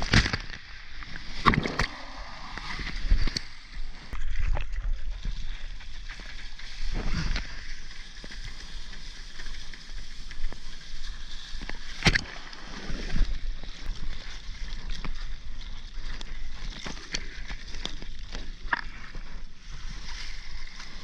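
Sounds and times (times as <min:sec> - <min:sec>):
water splashing around surfboard: 0:00.0 - 0:21.0.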